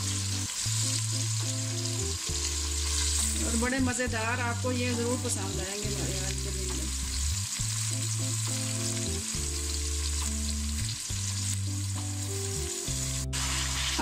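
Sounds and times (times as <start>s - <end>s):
hot oil sizzling: 0.0s - 14.0s.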